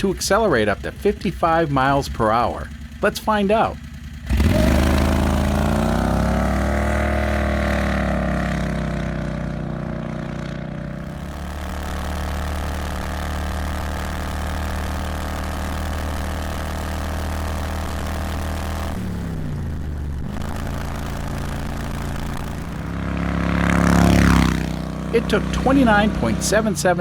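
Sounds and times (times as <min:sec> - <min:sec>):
car engine running under load: 0:00.0 - 0:27.0.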